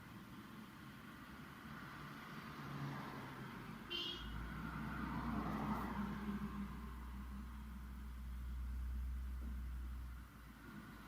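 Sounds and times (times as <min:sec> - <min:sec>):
background traffic drone: 0:00.0 - 0:11.0.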